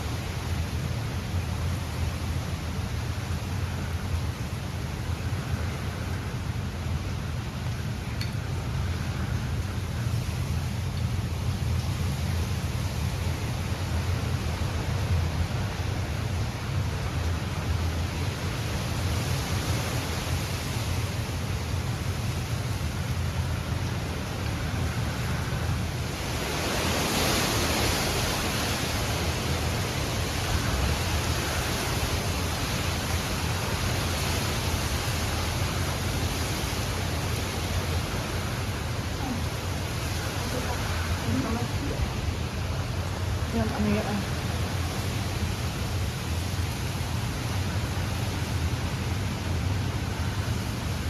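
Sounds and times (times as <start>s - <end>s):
hurricane wind and rain rushing: 0.0s - 51.0s
wind rumble on microphone: 0.0s - 51.0s.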